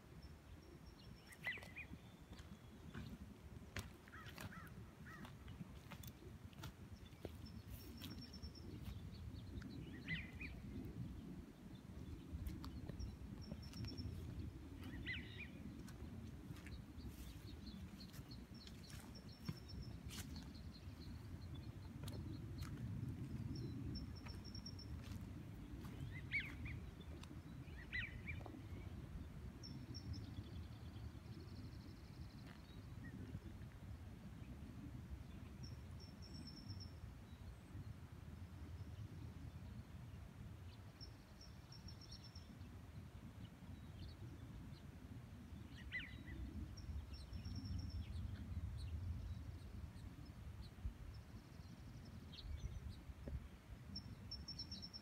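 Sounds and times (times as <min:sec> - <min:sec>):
faint low rumble: 0:00.0 - 0:54.8.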